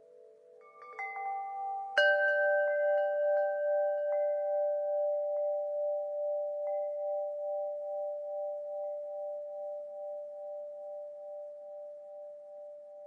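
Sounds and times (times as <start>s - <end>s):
wind chimes wavering tone: 0.0s - 13.0s.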